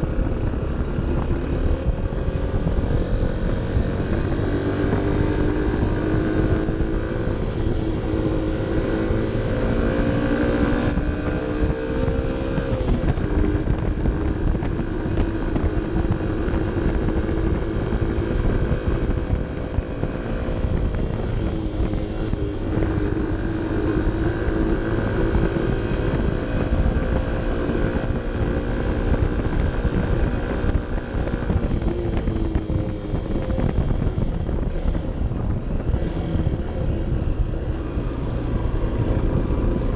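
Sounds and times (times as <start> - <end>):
motorcycle engine pulling uphill: 0.0 - 39.9
wind buffeting microphone: 0.0 - 39.9.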